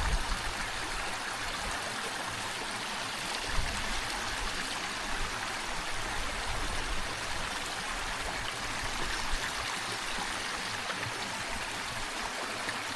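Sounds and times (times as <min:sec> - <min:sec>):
flowing water rushing: 0:00.0 - 0:12.9.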